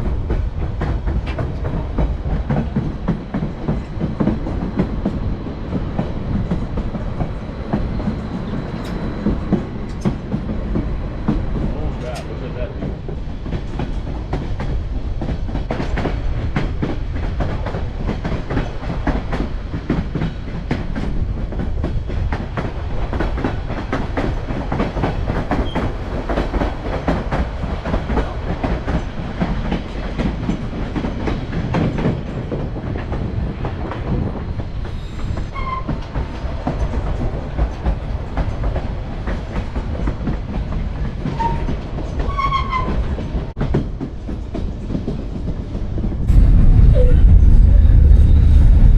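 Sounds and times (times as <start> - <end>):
train rumble: 0.0 - 48.9.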